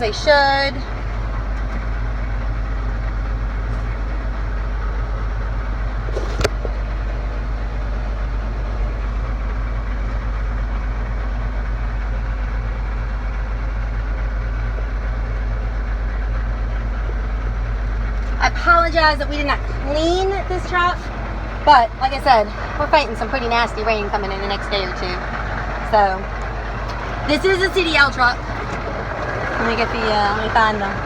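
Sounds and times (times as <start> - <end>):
diesel truck idling: 0.0 - 31.0.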